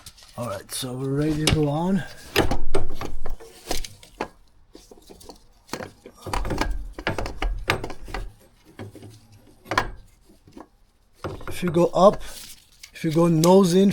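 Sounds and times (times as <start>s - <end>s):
starter motor knocking and scraping: 1.1s - 13.9s.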